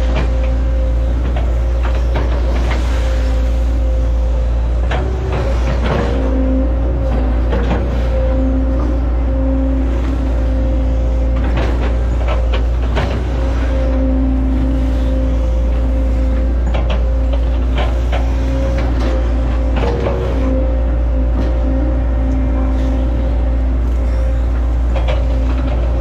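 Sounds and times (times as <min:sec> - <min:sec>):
excavator engine droning with whine: 0:00.0 - 0:26.0.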